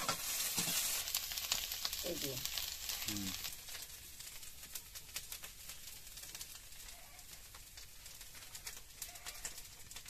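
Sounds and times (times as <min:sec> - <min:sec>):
food frying in oil: 0:00.0 - 0:10.0.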